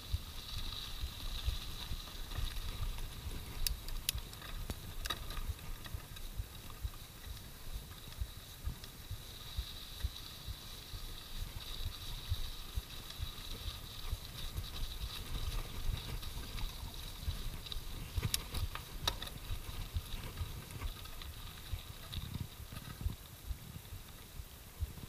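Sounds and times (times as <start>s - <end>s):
bike tyres rumbling and rattling: 0.0s - 25.0s.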